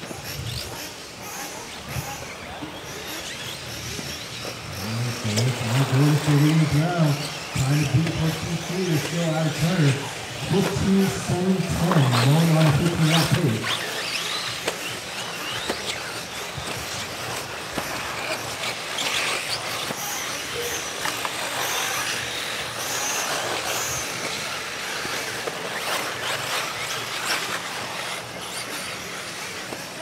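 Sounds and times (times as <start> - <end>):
rc car motors whining: 0.0 - 30.0
steady noise of running cars: 0.0 - 30.0.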